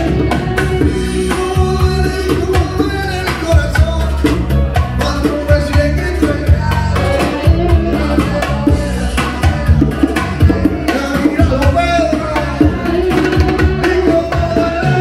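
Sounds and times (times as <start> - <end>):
drums and percussion: 0.0 - 15.0
man singing: 0.0 - 15.0.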